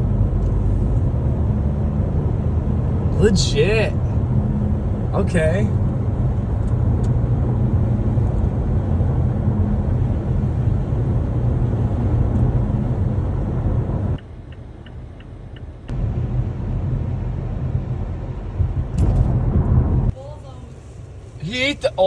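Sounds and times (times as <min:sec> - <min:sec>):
car engine rumble: 0:00.0 - 0:22.0.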